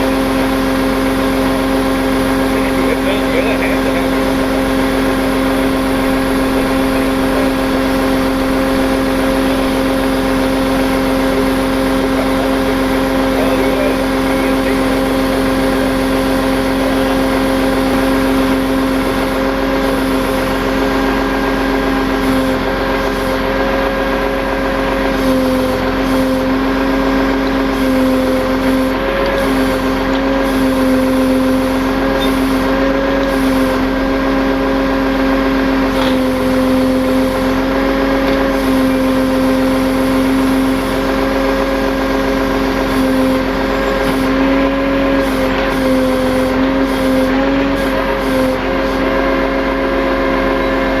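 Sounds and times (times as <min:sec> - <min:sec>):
tow truck winch droning whine: 0:00.0 - 0:51.0.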